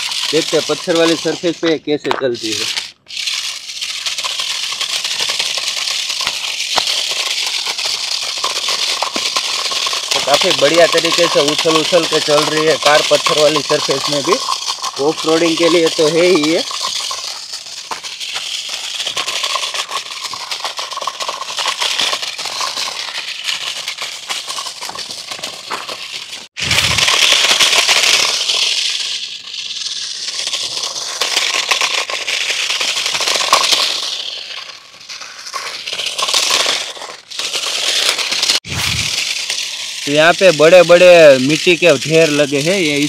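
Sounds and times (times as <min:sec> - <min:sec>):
rc car rattling over stony ground: 0:00.0 - 0:43.0.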